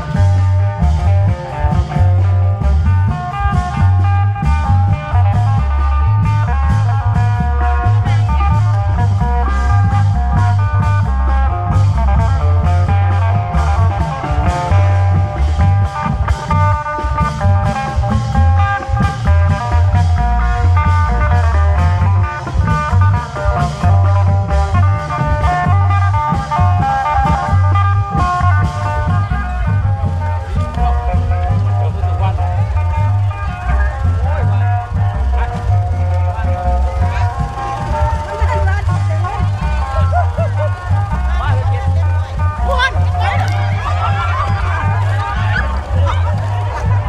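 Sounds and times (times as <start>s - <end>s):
low drum beat: 0.0s - 47.0s
plucked string melody: 0.0s - 47.0s.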